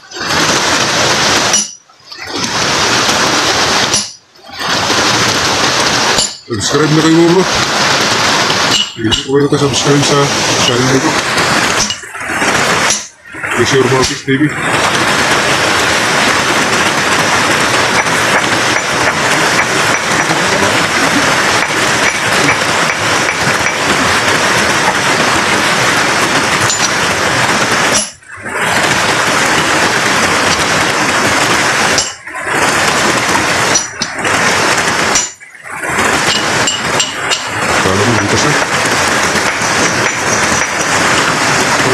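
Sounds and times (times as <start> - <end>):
flowing creek water: 0.0 - 41.9.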